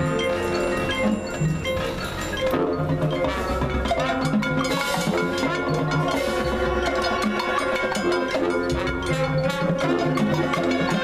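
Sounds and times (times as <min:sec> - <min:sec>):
drums: 0:00.0 - 0:11.0
mallet percussion: 0:00.0 - 0:11.0.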